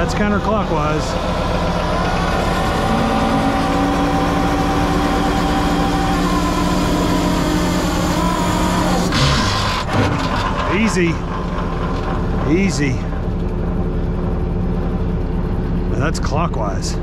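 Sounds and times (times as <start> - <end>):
hydraulic pump whine: 0.0 - 17.0
truck engine idling: 0.0 - 17.0.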